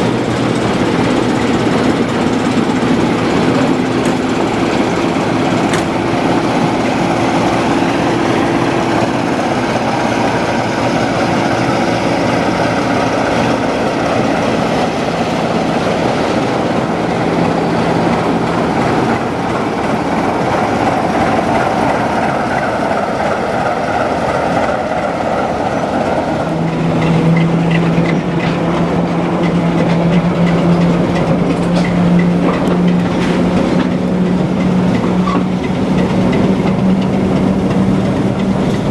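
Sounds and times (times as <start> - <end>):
diesel locomotive engine drone: 0.0 - 38.9.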